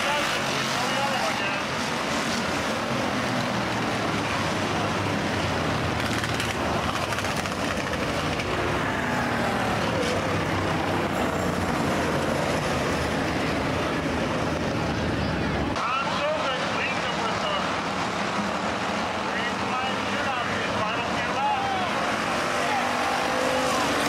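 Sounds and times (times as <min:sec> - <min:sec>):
race car engines: 0:00.0 - 0:24.0.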